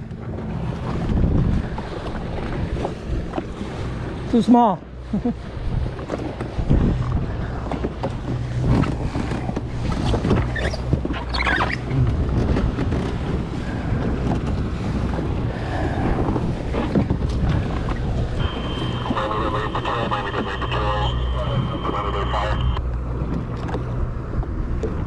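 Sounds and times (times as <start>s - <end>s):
wind on microphone: 0.0s - 4.2s, 5.4s - 25.0s
jet ski engine running: 0.0s - 25.0s
water noise around hull: 0.0s - 25.0s.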